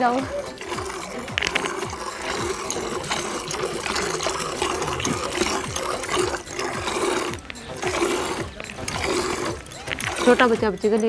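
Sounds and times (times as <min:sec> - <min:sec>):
milk squirting into a bucket: 0:00.0 - 0:11.0.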